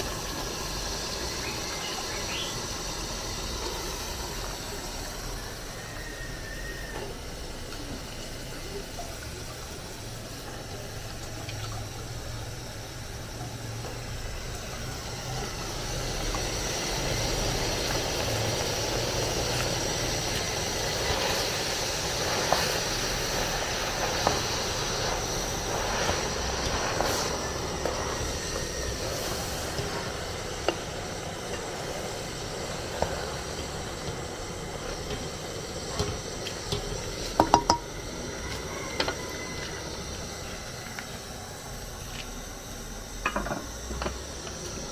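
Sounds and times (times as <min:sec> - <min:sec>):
soup cooking with a steady hiss: 0:00.0 - 0:44.9.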